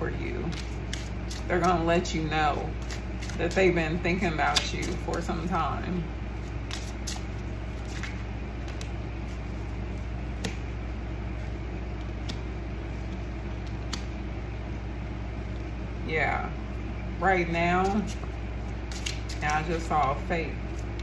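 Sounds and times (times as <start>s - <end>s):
low room hum and hiss: 0.0s - 21.0s.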